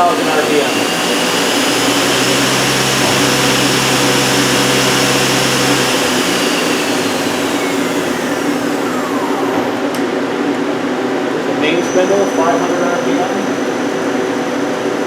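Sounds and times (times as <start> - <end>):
lathe spindle high-pitched whine: 0.0 - 15.0
loud machine noise: 0.0 - 15.0.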